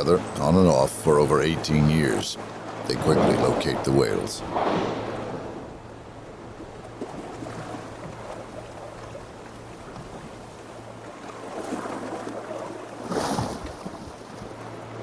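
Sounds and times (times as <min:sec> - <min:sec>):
low steady hum: 0:00.0 - 0:15.0
water washing against hull: 0:00.0 - 0:15.0
wind: 0:00.0 - 0:15.0.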